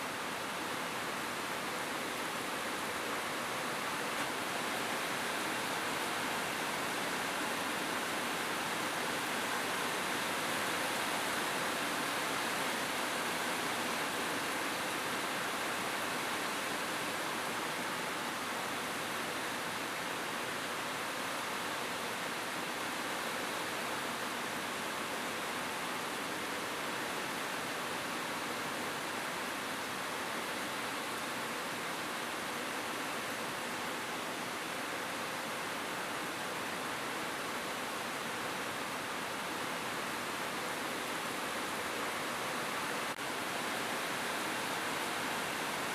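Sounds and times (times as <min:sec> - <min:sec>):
rain on a roof: 0:00.0 - 0:45.9.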